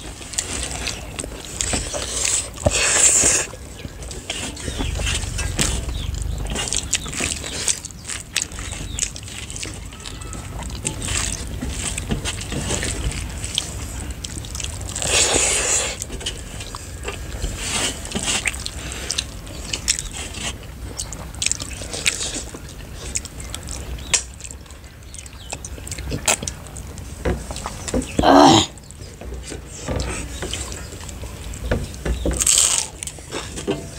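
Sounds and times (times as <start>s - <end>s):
chewing: 0.0s - 29.1s, 29.7s - 33.9s.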